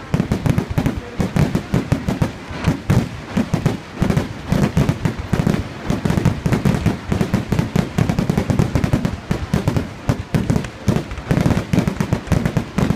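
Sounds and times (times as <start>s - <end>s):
fireworks bangs: 0.0s - 12.9s.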